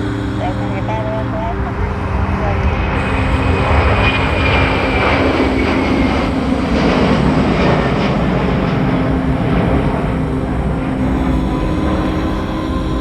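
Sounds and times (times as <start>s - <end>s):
jet engines with high whine: 0.0s - 13.0s.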